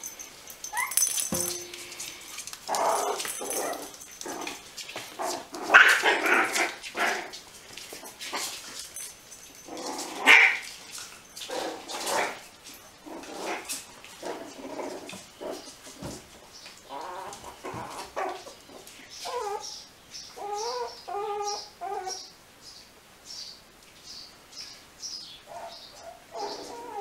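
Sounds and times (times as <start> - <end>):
puppies yipping and barking: 0.0 - 16.1, 16.9 - 22.2, 25.5 - 27.0.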